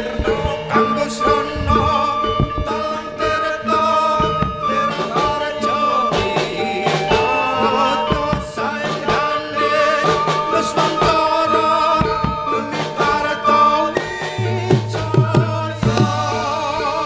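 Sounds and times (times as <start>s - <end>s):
drum strokes: 0.0s - 16.7s
held wavering melodic notes: 0.0s - 17.0s.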